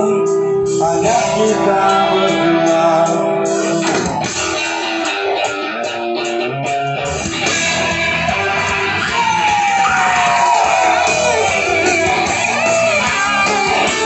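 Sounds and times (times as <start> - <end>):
guitars playing: 0.0 - 14.0
live rock band: 0.0 - 14.0.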